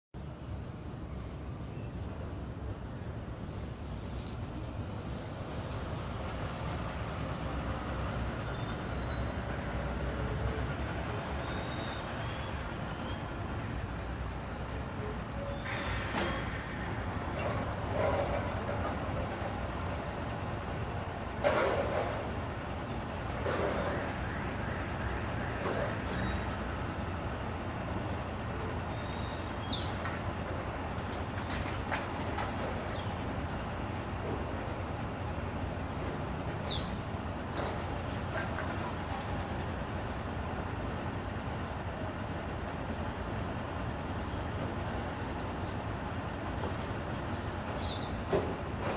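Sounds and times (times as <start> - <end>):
garbage truck diesel engine rumbling: 0.2 - 48.9.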